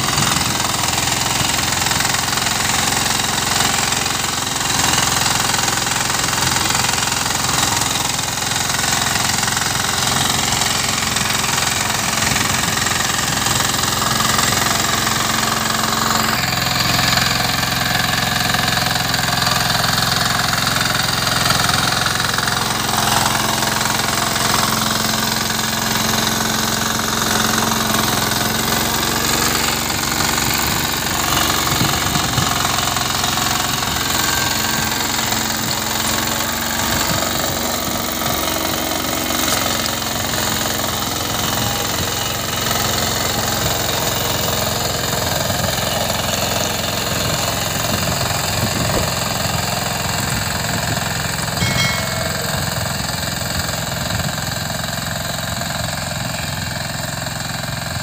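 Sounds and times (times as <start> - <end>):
tiller engine running: 0.0 - 58.0.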